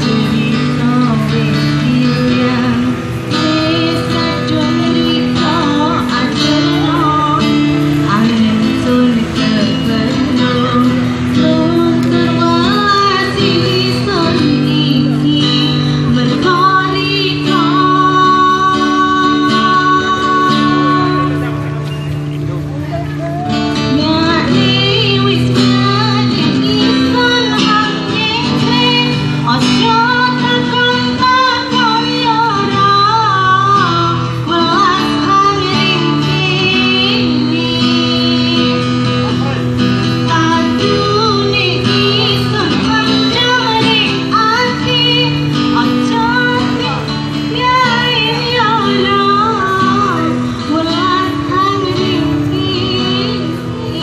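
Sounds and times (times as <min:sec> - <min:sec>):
woman singing pop song: 0:00.0 - 0:21.6, 0:23.6 - 0:54.0
strummed acoustic guitar: 0:00.0 - 0:54.0.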